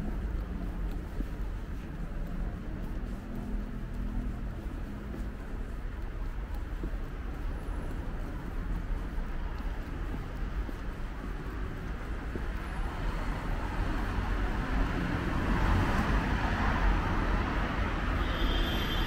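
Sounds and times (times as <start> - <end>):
road noise rumble: 0.0 - 19.0
vehicle engine and tyre noise: 0.0 - 19.0.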